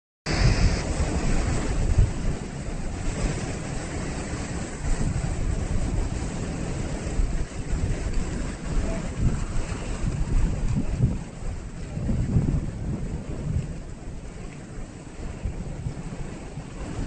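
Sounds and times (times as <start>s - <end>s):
ocean surf washing: 0.3s - 17.0s
wind buffeting microphone: 0.3s - 17.0s.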